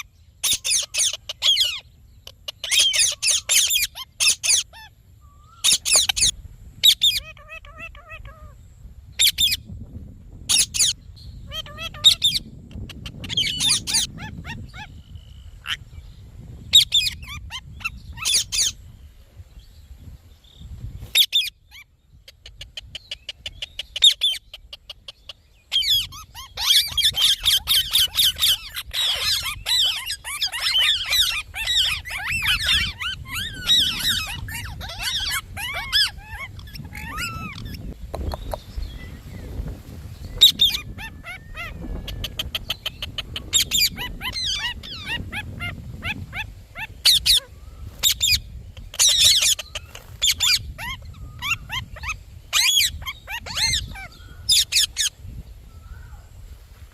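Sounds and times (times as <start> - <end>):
parakeet squawking and chattering: 0.0 - 4.9, 5.6 - 8.6, 10.5 - 15.8, 16.7 - 18.8, 21.1 - 38.6, 40.4 - 55.1.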